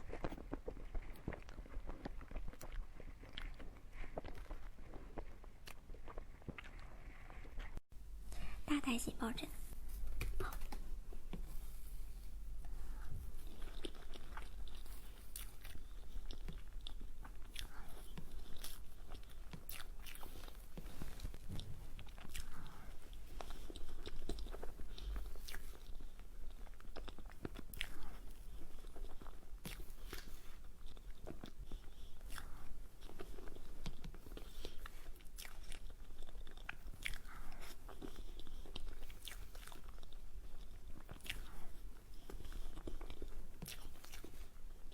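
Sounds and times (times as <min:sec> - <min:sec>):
person chewing dessert: 0:00.0 - 0:07.8, 0:10.3 - 0:44.9.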